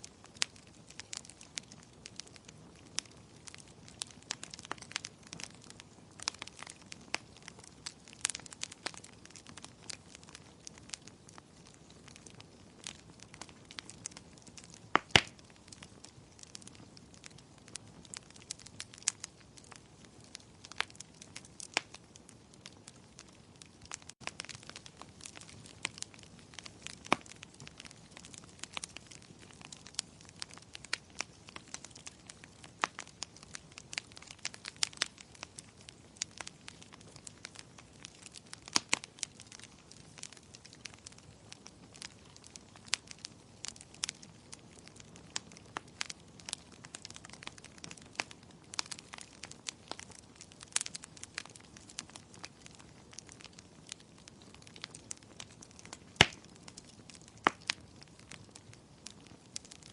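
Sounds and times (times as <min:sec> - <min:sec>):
faint steady hiss: 0:00.0 - 0:59.9
wood fire crackling: 0:00.0 - 0:59.9.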